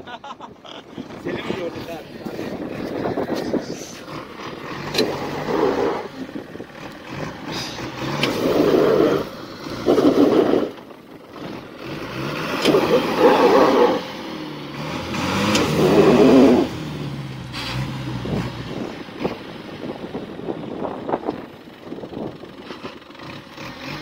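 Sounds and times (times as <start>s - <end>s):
off-road vehicle engine revving: 1.0s - 24.0s.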